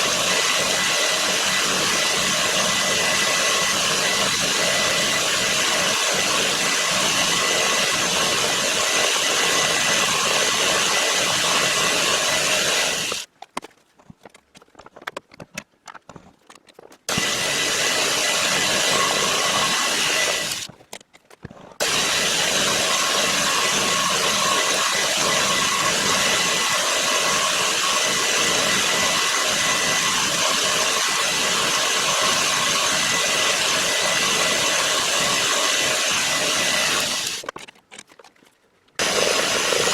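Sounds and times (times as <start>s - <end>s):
machine running with hissing whine: 0.0s - 13.3s, 17.1s - 20.7s, 21.8s - 37.4s, 39.0s - 39.9s.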